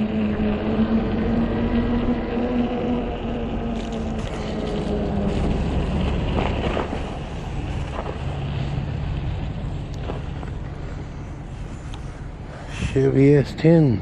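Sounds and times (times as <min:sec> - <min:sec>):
low engine hum: 0:00.0 - 0:14.0
passing traffic: 0:00.0 - 0:14.0
tyres rumbling: 0:00.0 - 0:14.0
wind rushing over microphone: 0:00.0 - 0:14.0.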